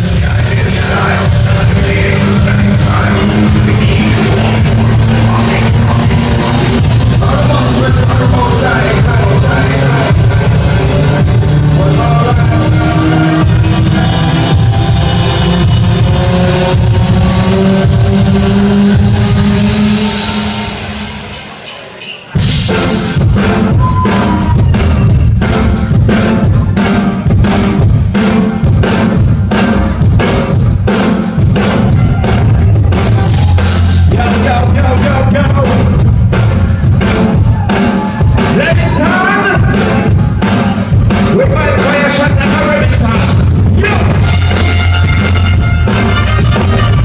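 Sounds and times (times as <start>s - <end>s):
heavy bass: 0.0s - 47.0s
live band playing: 0.0s - 47.0s
drum hits: 1.2s - 47.0s.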